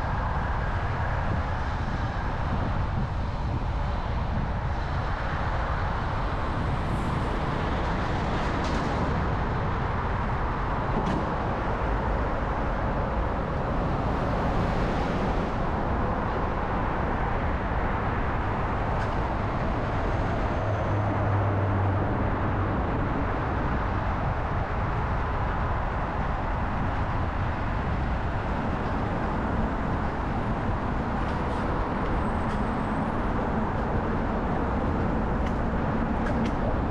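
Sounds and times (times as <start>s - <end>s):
city traffic noise: 0.0s - 36.9s.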